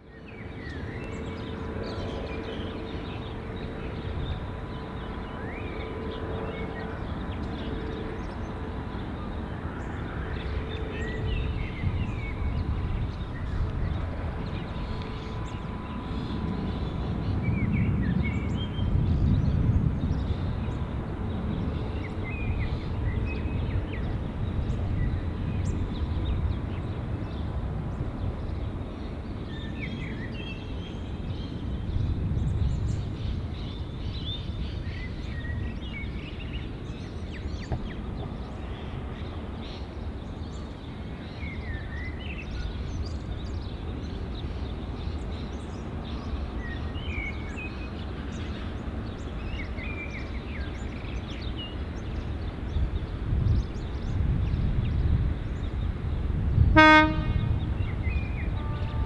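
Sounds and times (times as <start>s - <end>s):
distant diesel locomotive rumble: 0.0s - 59.0s.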